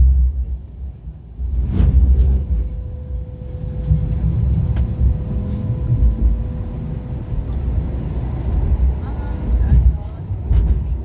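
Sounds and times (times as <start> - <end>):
faint steady whine: 0.0 - 11.0
rail car wheels rumbling: 0.0 - 11.0.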